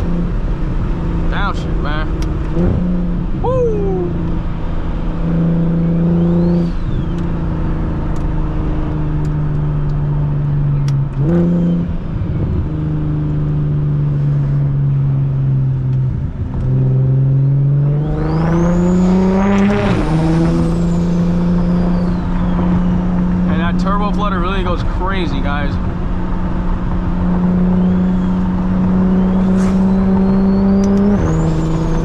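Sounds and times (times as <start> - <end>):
car engine accelerating: 0.0 - 32.0
high turbo whine: 0.0 - 32.0.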